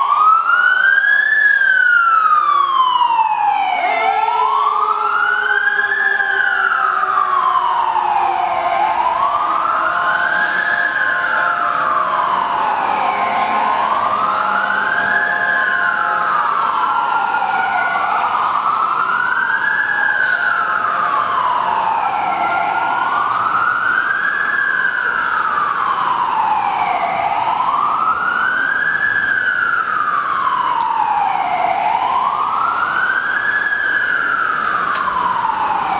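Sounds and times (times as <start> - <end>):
emergency vehicle siren wailing: 0.0 - 35.9.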